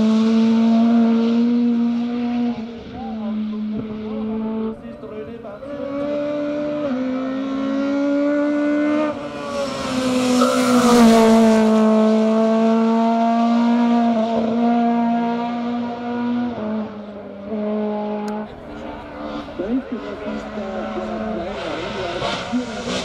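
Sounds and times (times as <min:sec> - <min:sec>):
race car engine passing: 0:00.0 - 0:04.8, 0:05.4 - 0:23.0.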